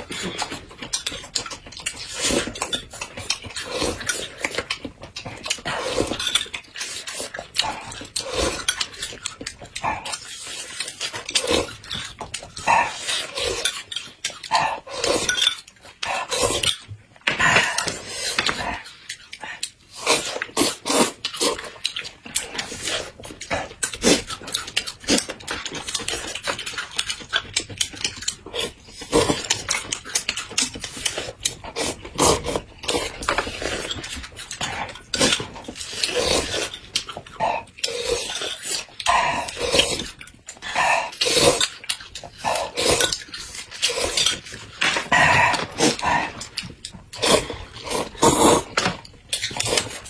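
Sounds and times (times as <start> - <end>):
noodles slurped: 0.0 - 16.9, 17.5 - 50.0
apple crunching and chewing: 0.0 - 50.0.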